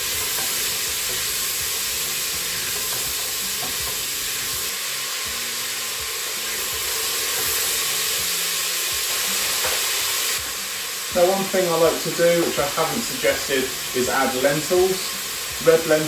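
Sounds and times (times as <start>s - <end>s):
peppers sizzling in hot oil: 0.0s - 16.0s.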